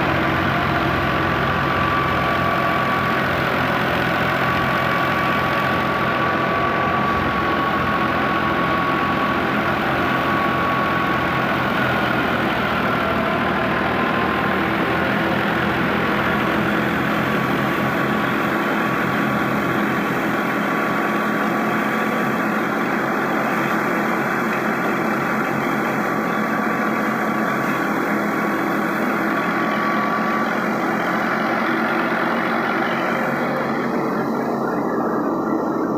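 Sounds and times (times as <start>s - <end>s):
heavy machinery engine running: 0.0s - 35.9s
thin whine: 0.0s - 35.9s.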